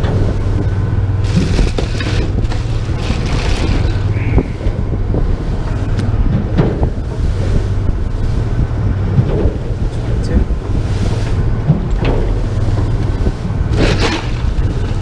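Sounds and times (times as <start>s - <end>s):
boat engine droning: 0.0s - 15.0s
wind buffeting microphone: 0.0s - 15.0s.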